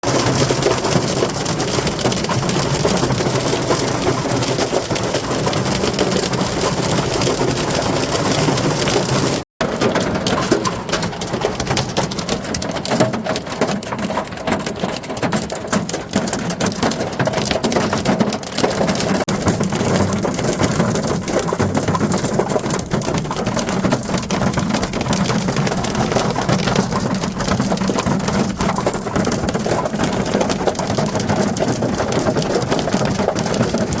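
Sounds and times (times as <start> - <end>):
hailstones pelting down: 0.0 - 34.0.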